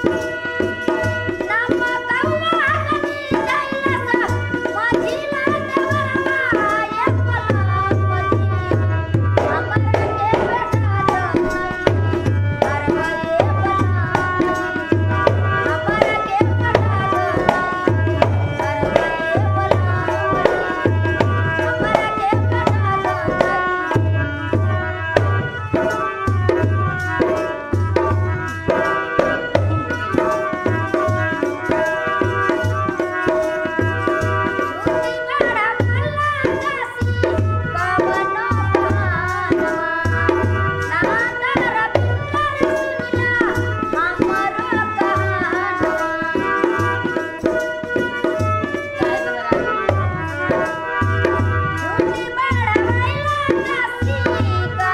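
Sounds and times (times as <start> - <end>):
hand drum beat: 0.0 - 54.9
harmonium chords: 0.0 - 54.9
woman singing: 0.0 - 54.9.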